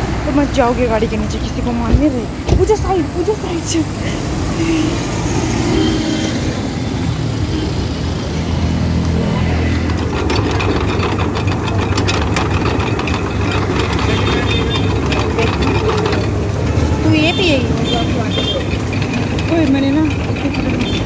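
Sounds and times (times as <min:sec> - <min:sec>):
street noise: 0:00.0 - 0:21.0
rollers crackling on cane: 0:00.5 - 0:21.0
juice crusher droning: 0:03.2 - 0:21.0.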